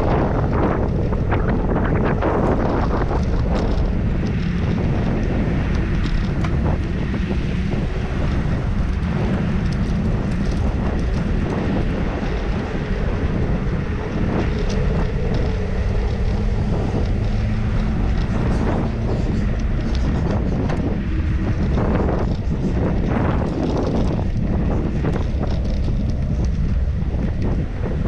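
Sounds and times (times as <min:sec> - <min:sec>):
road traffic hum: 0:00.0 - 0:28.0
wind buffeting microphone: 0:00.0 - 0:28.0.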